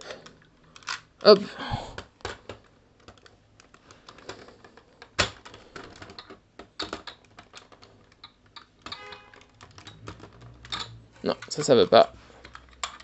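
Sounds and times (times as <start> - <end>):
plastic toy parts clicking: 0.0 - 1.4, 2.0 - 13.0.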